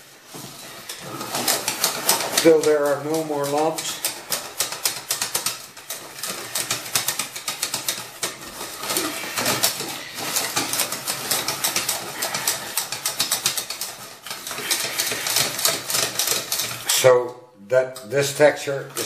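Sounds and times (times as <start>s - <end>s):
whisk beating batter in metal pot: 0.0s - 17.0s, 18.0s - 19.0s.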